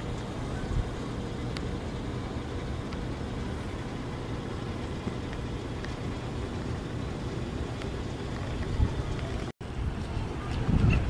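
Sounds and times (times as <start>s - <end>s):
city background rumble and hiss: 0.0s - 11.0s.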